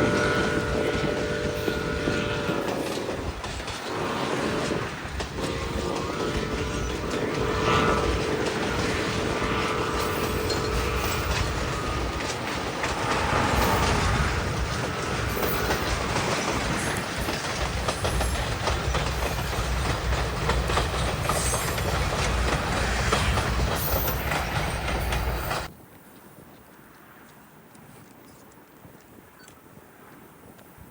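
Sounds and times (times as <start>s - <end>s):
freight train wheels on rails: 0.0s - 27.4s.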